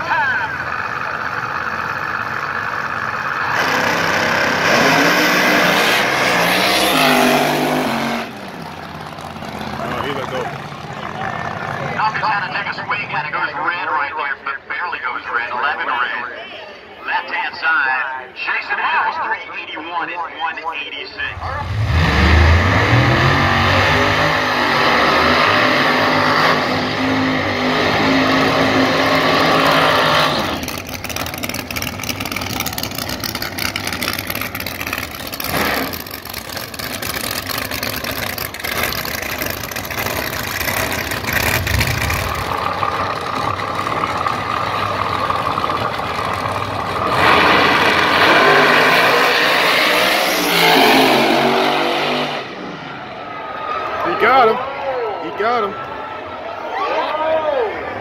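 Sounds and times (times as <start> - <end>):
drag race car engines: 0.0 - 58.0.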